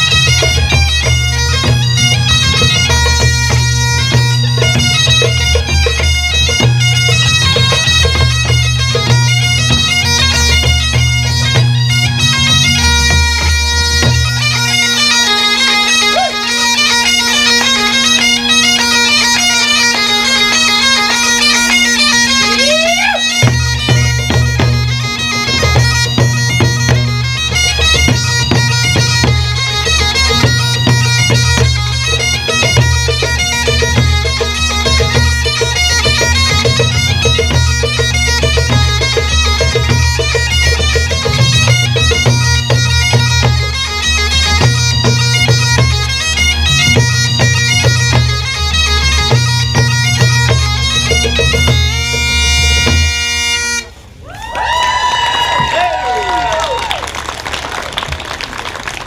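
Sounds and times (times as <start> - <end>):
bagpipes playing over drone: 0.0 - 54.2
low rhythmic accompaniment: 0.0 - 54.2.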